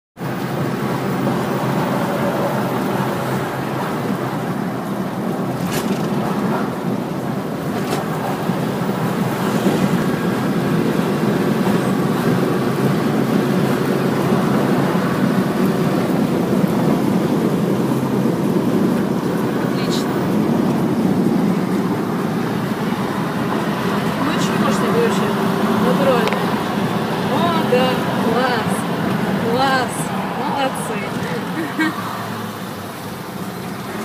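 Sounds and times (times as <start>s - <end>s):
car road and engine noise: 0.2s - 34.0s.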